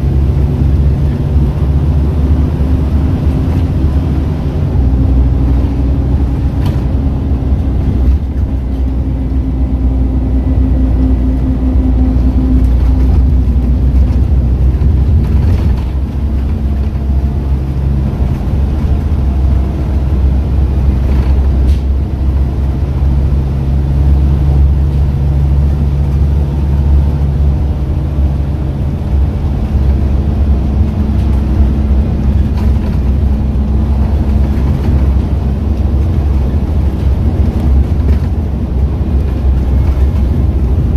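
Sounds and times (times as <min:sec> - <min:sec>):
bus engine droning: 0:00.0 - 0:40.9
road and tyre noise: 0:00.0 - 0:40.9.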